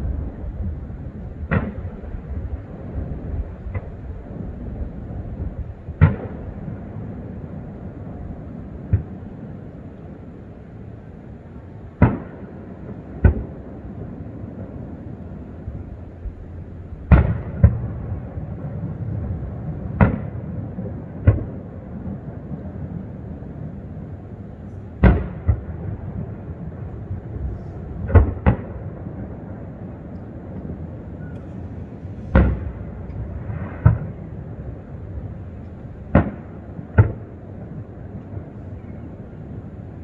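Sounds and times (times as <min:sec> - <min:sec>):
fireworks booming: 0:00.0 - 0:10.0, 0:10.8 - 0:40.0
low background rumble: 0:00.0 - 0:40.0.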